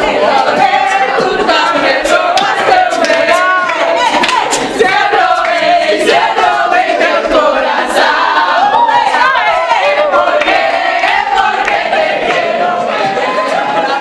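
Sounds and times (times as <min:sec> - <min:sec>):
young people shouting and cheering: 0:00.0 - 0:14.0.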